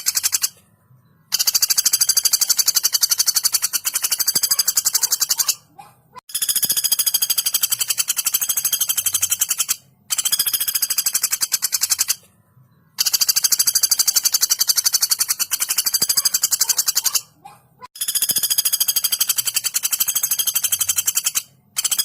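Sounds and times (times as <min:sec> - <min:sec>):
woodpecker rattling trills: 0:00.0 - 0:00.6, 0:01.3 - 0:12.3, 0:13.0 - 0:22.0.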